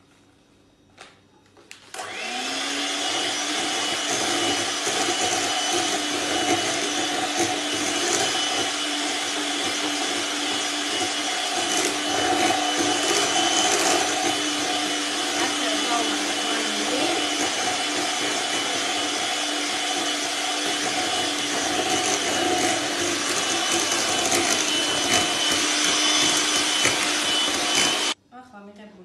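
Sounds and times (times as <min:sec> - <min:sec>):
electric hand mixer whipping: 0:02.0 - 0:28.2.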